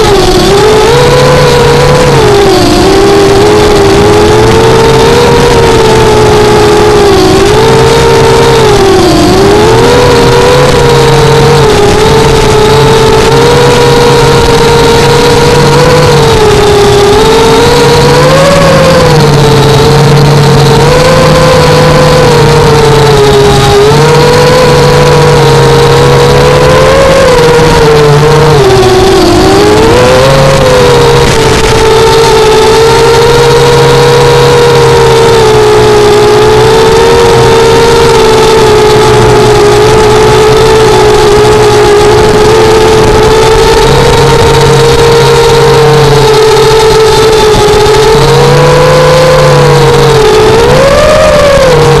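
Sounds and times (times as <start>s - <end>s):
loud rushing noise: 0.0s - 52.0s
quadcopter motors whining: 0.0s - 52.0s.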